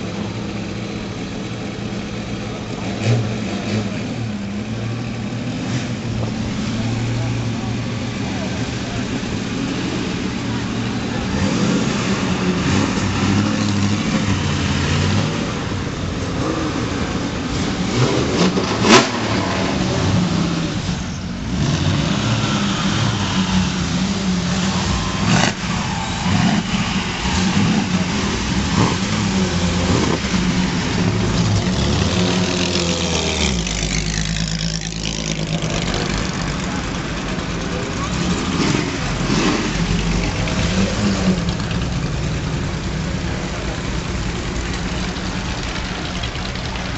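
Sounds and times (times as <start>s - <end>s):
racing car engines revving: 0.0s - 46.9s.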